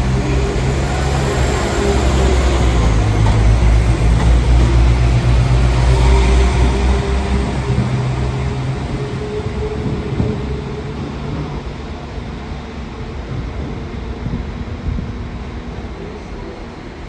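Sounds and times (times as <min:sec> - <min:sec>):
diesel train engines humming: 0:00.0 - 0:17.0.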